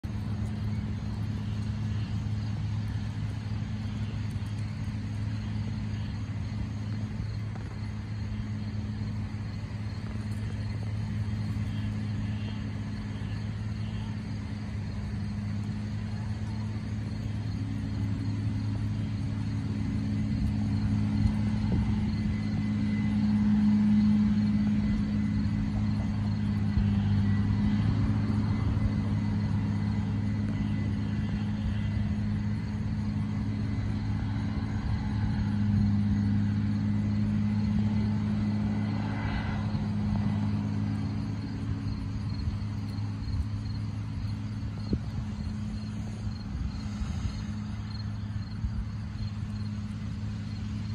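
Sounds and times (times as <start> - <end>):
combine harvester engine drone: 0.0 - 50.9
faint high whine: 0.0 - 50.9.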